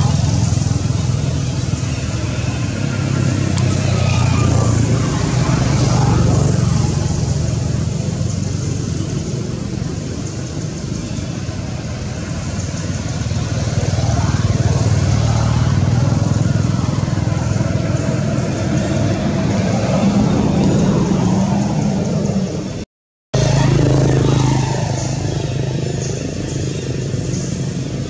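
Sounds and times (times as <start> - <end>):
low rumble of traffic: 0.0 - 22.8, 23.4 - 28.0.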